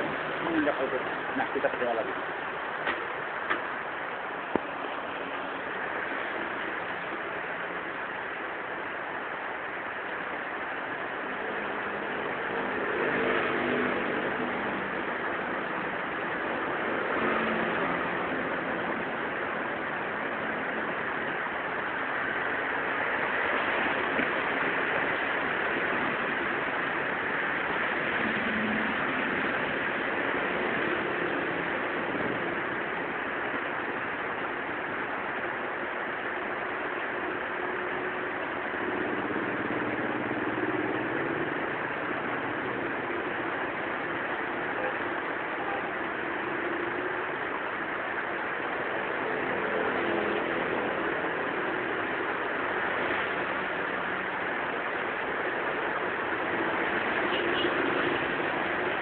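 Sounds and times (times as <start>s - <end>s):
rain hiss: 0.0s - 59.0s
tyres hissing on wet road: 0.0s - 59.0s.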